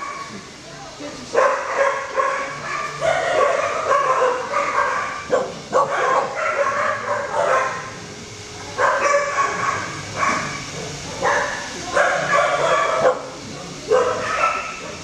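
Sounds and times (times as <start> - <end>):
many dogs barking and yelping: 1.4 - 8.0, 8.7 - 15.0.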